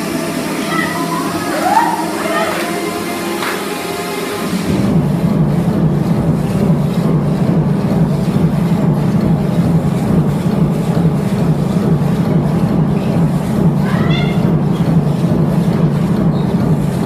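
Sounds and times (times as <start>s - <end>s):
aerobics dance music: 0.0s - 17.0s.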